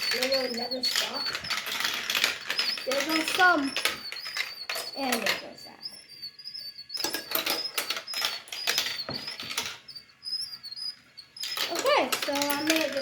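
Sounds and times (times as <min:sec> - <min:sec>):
faint high wavering whine: 0:00.0 - 0:13.0
marbles clattering on plastic run: 0:00.0 - 0:13.0.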